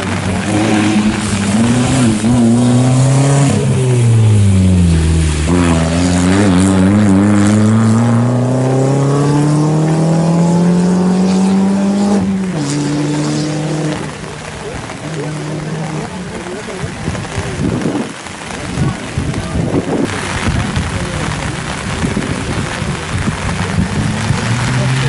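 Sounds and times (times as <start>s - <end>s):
rally car engine: 0.0s - 25.0s.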